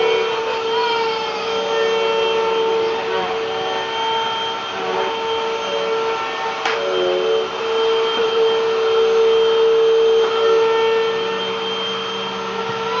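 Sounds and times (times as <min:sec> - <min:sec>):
vacuum cleaner motor running: 0:00.0 - 0:13.0.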